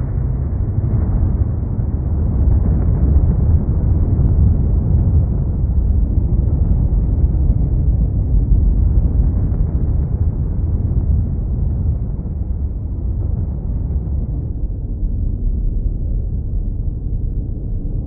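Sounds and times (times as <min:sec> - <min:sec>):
deep rumble: 0:00.0 - 0:18.0.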